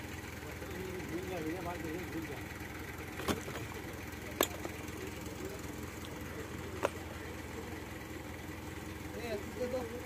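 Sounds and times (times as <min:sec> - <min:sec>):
crane engine running: 0:00.0 - 0:10.0.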